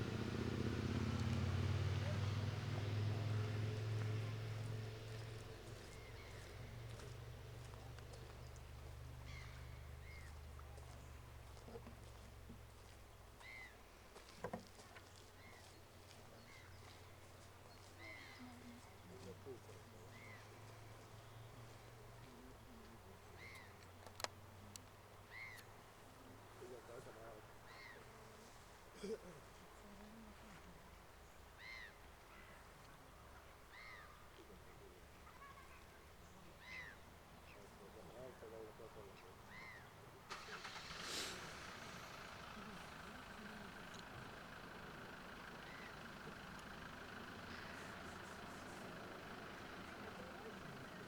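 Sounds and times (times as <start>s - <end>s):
faint low hum: 0.0s - 51.0s
faint bird calls: 4.0s - 51.0s.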